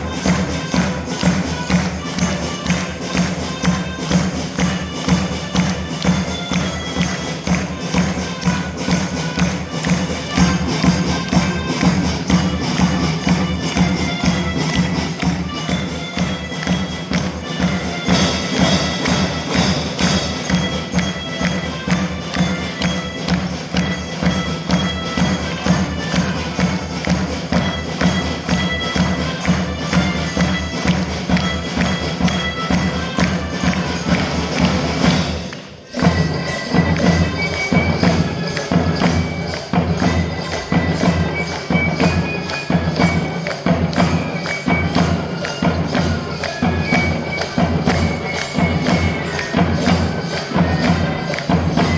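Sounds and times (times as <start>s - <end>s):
band drumming: 0.0s - 51.9s.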